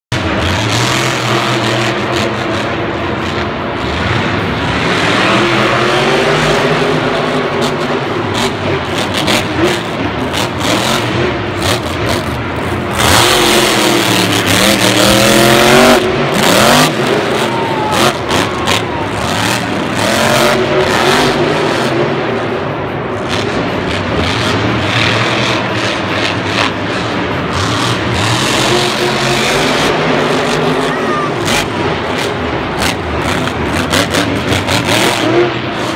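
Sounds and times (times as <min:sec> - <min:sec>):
truck engine revving: 0:00.1 - 0:35.9.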